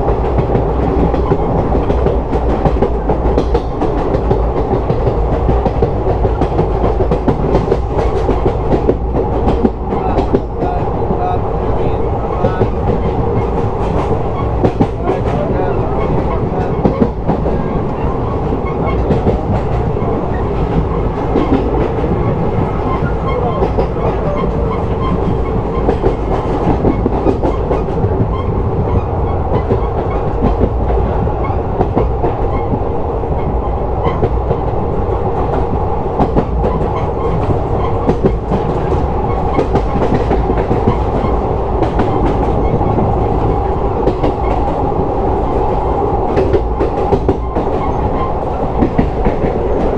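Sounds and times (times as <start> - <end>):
track clicks and clacks: 0.0 - 49.9
train wheels rumbling on rails: 0.0 - 49.9.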